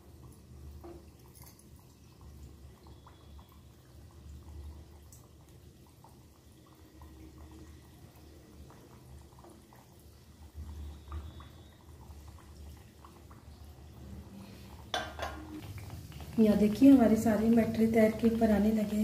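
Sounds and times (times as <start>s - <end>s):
oil bubbling and popping: 0.0s - 19.0s.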